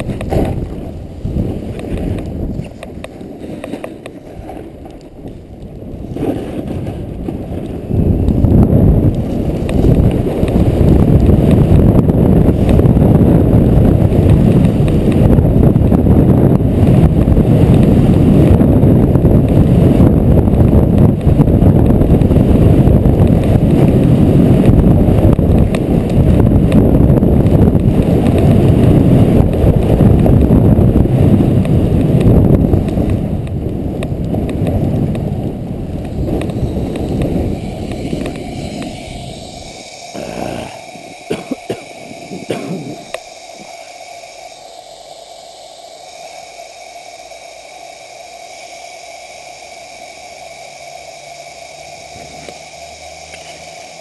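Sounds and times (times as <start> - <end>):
wind rumbling on microphone: 0.0 - 49.2
snowboard sliding over snow: 0.0 - 54.0.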